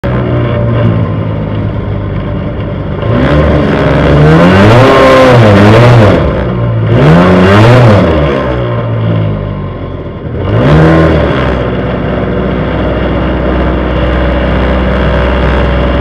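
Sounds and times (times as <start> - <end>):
drag racing car engine revving: 0.0 - 16.0.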